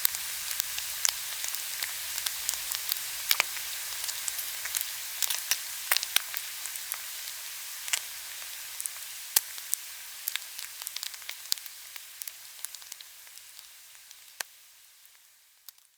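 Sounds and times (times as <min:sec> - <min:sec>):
pork belly sizzling on a grill: 0:00.0 - 0:15.9.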